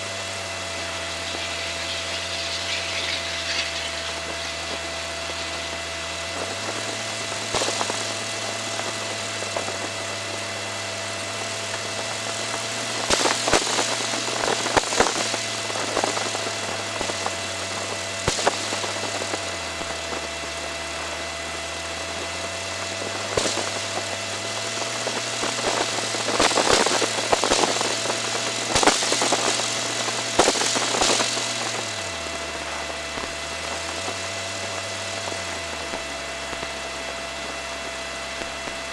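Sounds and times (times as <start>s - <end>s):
high whine: 0.0s - 38.9s
propeller aircraft engine drone: 0.0s - 38.9s.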